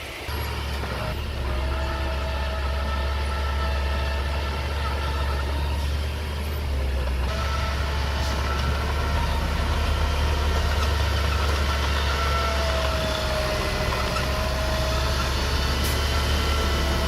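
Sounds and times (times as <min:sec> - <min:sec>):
diesel bulldozer engine rumbling: 0:00.0 - 0:17.0
steady engine whine: 0:00.0 - 0:17.0.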